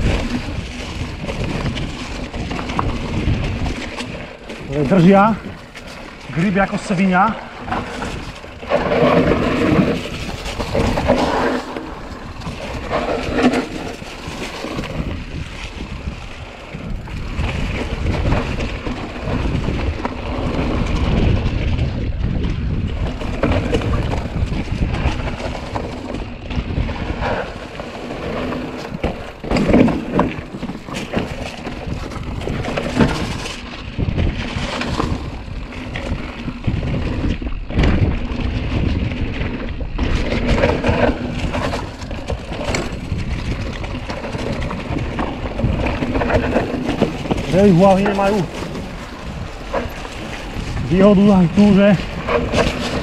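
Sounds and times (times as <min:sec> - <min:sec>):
bike tyres rolling on leaves: 0:00.0 - 0:53.0
wind buffeting microphone: 0:00.0 - 0:53.0.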